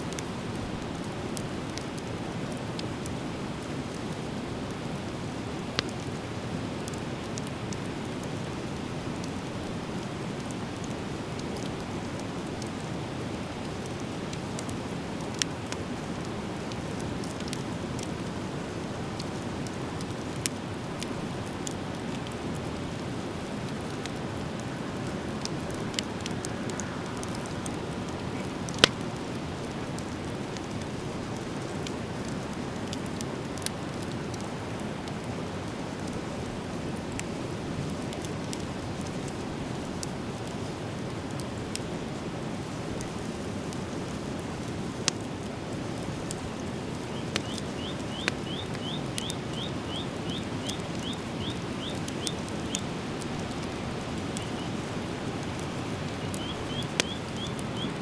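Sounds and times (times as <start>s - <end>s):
fire burning with hiss: 0.0s - 58.0s
fire crackles and pops: 0.0s - 58.0s.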